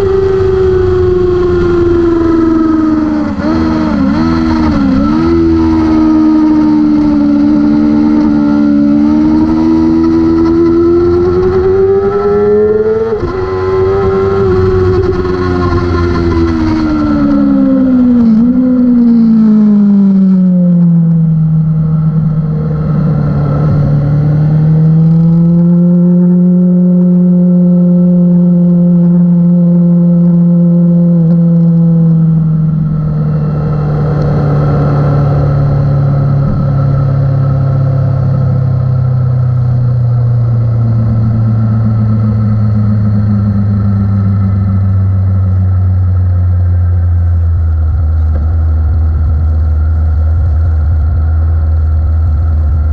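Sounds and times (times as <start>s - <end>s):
racing motorcycle engine: 0.0s - 52.9s.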